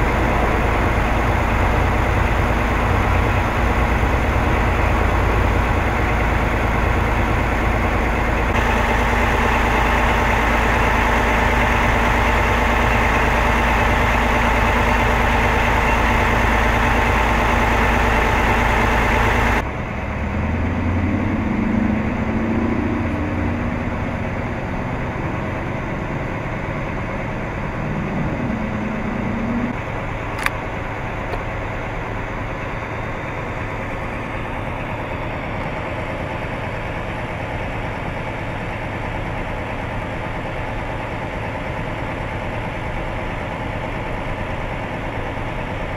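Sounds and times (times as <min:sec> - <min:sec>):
heavy engine idling: 0:00.0 - 0:45.9.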